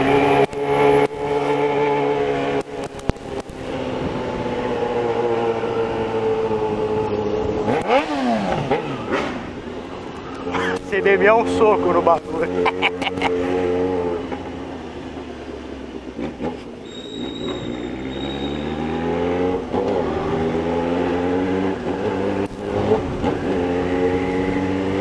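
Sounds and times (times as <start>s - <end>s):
motorcycle engine accelerating: 0.0s - 15.5s, 17.4s - 25.0s.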